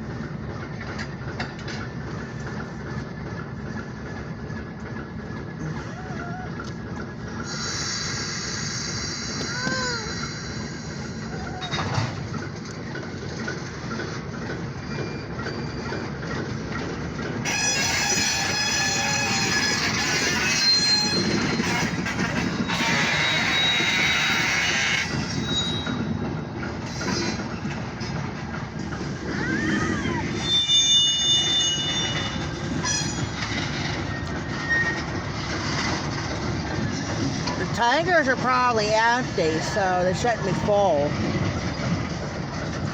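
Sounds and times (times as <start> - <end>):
freight train rumbling: 0.0 - 42.9
wheels squealing on rails: 0.1 - 42.9.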